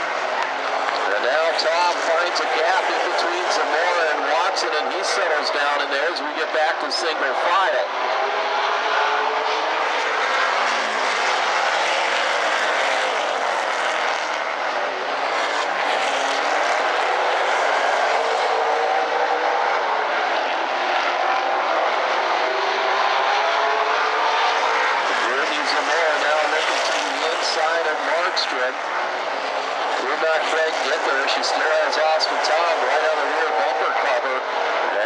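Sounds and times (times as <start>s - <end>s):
race car engines at full throttle: 0.0s - 35.0s.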